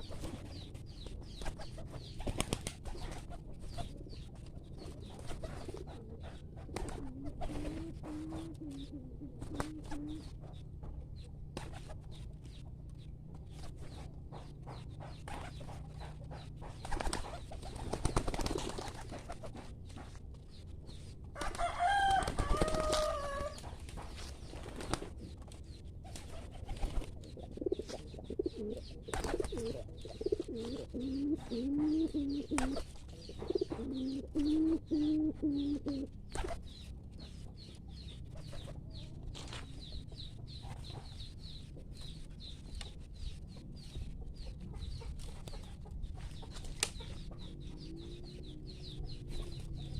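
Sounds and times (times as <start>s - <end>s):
pigeons cooing: 0.0s - 12.3s, 21.4s - 25.4s, 26.0s - 49.9s.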